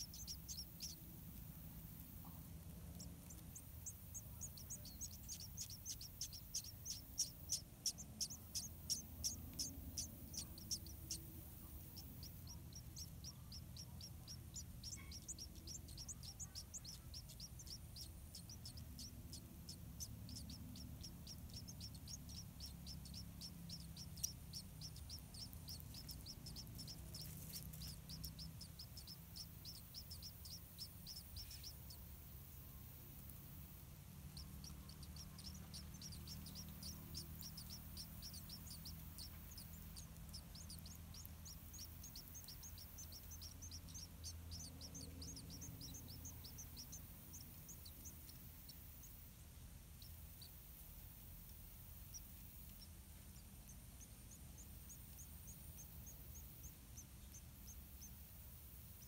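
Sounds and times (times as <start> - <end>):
nestlings chirping: 0.0 - 59.0.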